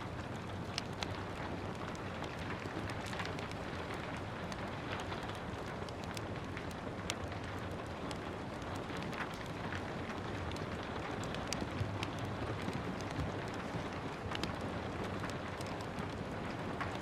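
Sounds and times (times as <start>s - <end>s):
gentle rain hiss: 0.0s - 17.0s
wood fire crackling: 0.0s - 17.0s.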